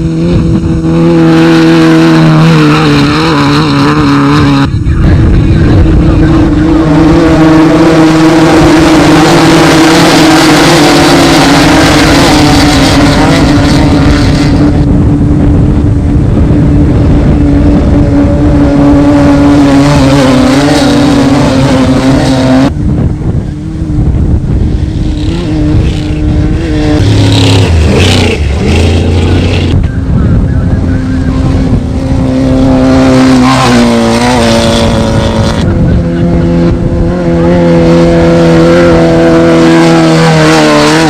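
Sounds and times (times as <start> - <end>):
engine revving high: 0.0 - 41.0
rough uneven engine: 0.0 - 41.0.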